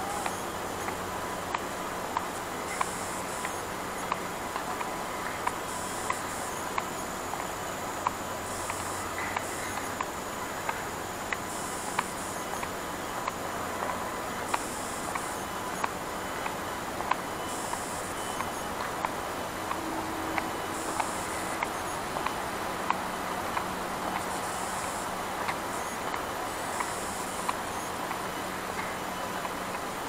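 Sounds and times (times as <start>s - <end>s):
insect calling in high bursts: 0.0s - 29.2s.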